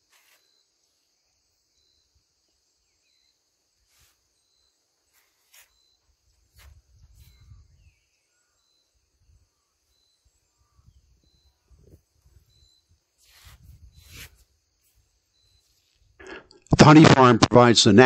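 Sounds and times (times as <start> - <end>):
high insect chirp: 0.0 - 16.2
insects buzzing: 0.0 - 16.2.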